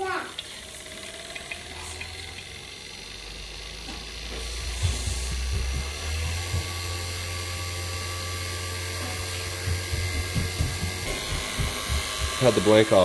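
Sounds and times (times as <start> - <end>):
vacuum pump humming: 0.0 - 13.0.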